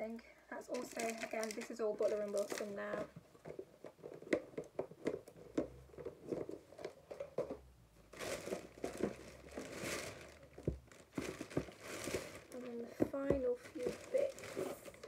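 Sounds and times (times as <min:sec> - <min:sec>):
plastic bag crinkling: 0:00.6 - 0:07.5, 0:08.1 - 0:15.0.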